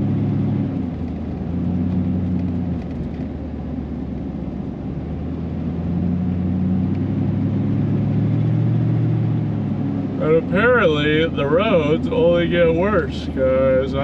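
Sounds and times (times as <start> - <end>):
low engine drone: 0.0 - 14.0
road and tyre rumble: 0.0 - 14.0.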